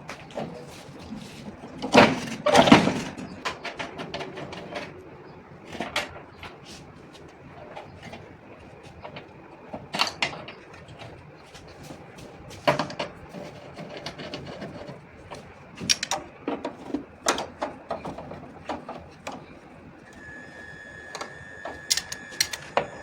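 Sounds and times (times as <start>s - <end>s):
tools and metal parts clanking: 0.1s - 5.0s, 7.6s - 11.9s, 12.6s - 20.2s, 21.1s - 23.0s.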